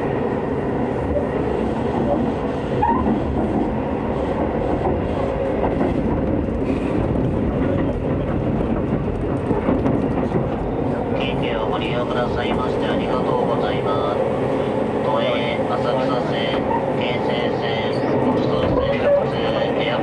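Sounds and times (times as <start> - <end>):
train wheel-on-rail running noise: 0.0 - 20.0.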